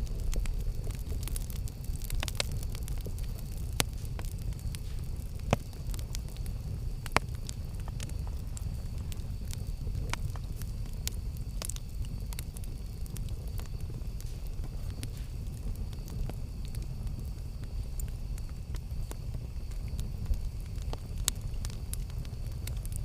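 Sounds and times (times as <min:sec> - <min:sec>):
burning wood crackles and pops: 0:00.0 - 0:23.0
campfire low rumble: 0:00.0 - 0:23.0.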